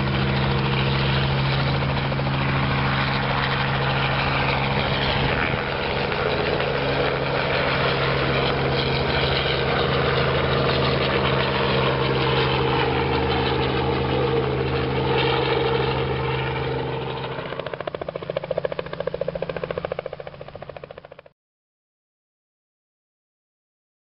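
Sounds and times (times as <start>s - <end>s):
helicopter engine drone: 0.0s - 21.3s
rotor blades beating: 0.0s - 21.3s.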